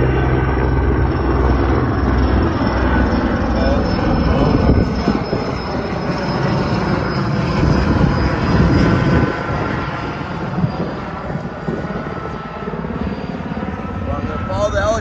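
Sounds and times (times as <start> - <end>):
helicopter rotor and engine rumble: 0.0 - 15.0
thin steady whine: 0.0 - 15.0.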